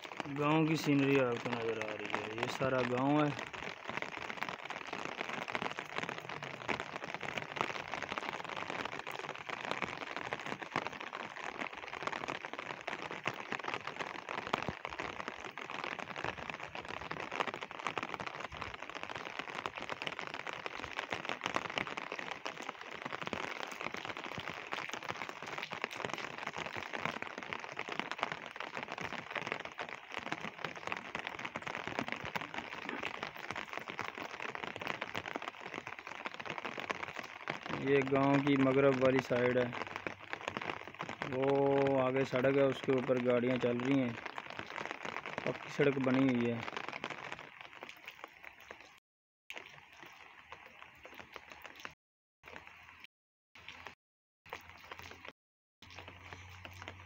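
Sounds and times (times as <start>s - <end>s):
rain on concrete roof: 0.0s - 57.0s.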